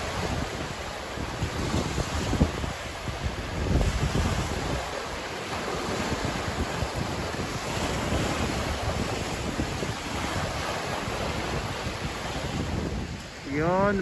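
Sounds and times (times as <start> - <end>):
waves lapping on rocky shore: 0.0 - 14.0
wind buffeting microphone: 0.0 - 14.0.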